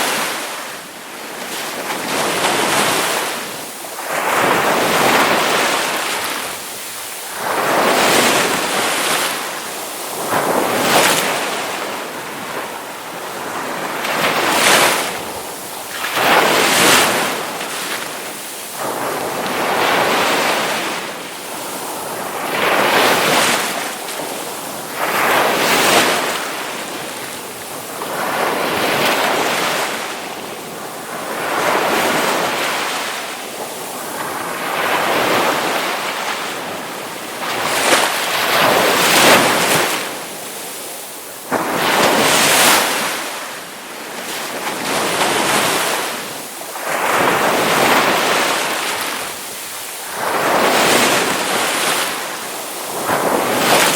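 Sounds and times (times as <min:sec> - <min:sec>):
ocean waves breaking: 0:00.0 - 0:53.9.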